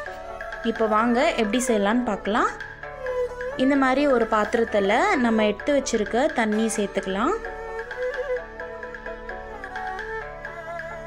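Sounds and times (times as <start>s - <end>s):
instrumental music with drone: 0.0s - 11.0s.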